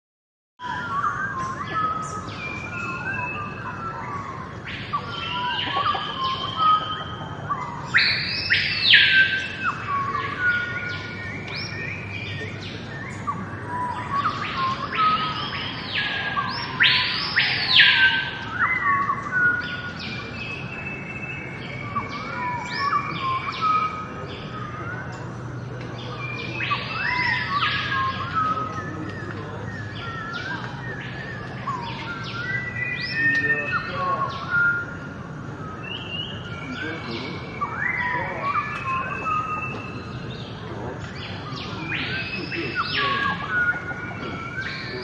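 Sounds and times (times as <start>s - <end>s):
birds singing and calling: 0.6s - 45.0s
swooping bird calls: 0.6s - 45.0s.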